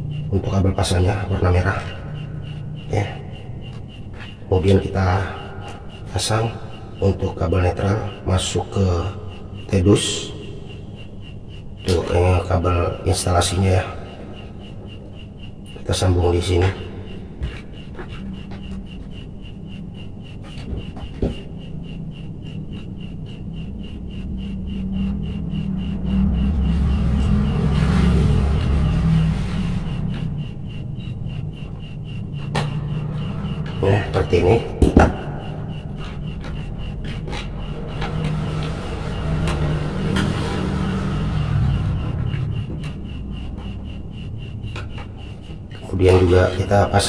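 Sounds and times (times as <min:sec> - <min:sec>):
high-pitched ticking: 0:00.0 - 0:47.0
low hum: 0:00.0 - 0:47.0
steady low rumble: 0:00.0 - 0:47.0.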